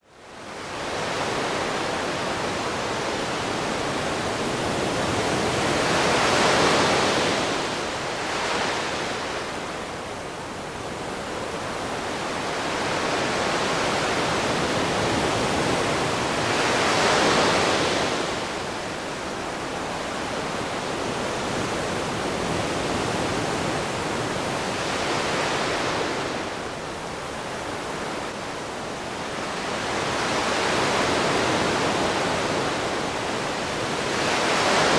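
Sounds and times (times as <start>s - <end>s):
ocean waves breaking: 0.6s - 34.9s.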